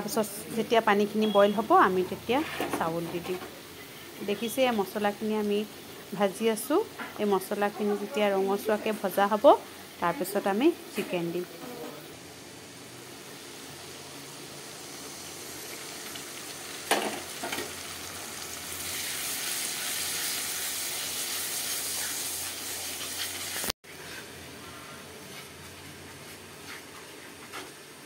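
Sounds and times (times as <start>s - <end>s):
masala sizzling in hot oil: 0.0s - 24.0s.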